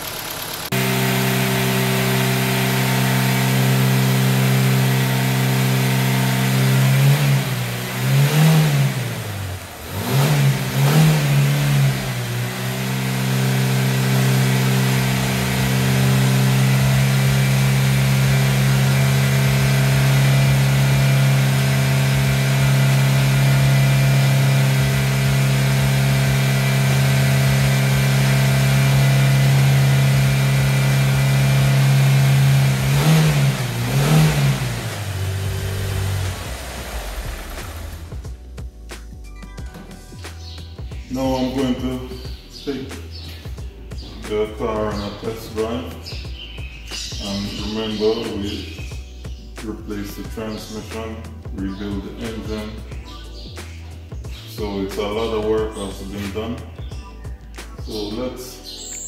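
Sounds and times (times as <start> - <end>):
car engine running: 0.0 - 50.9.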